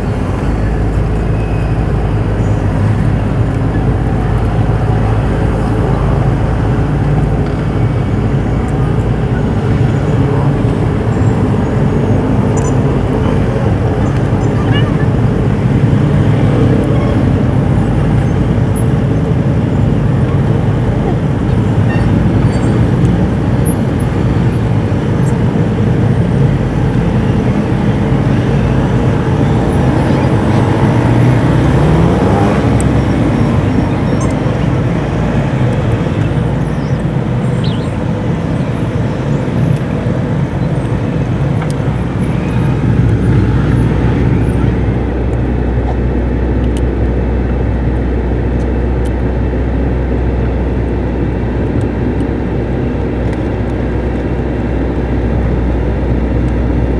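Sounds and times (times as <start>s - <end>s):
road noise: 0.0s - 56.9s
truck engine: 0.0s - 56.9s.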